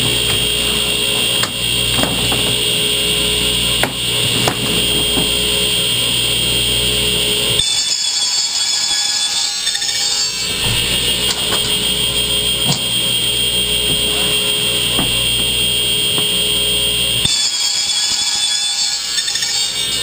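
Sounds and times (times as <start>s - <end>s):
power saw whining: 0.0s - 20.0s.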